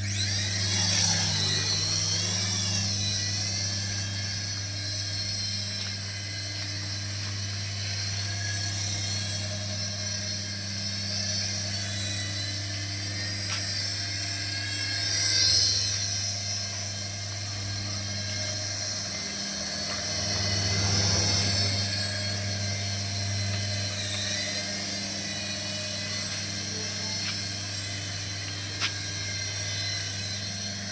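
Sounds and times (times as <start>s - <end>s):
toy electric motor whirring: 0.0s - 30.9s.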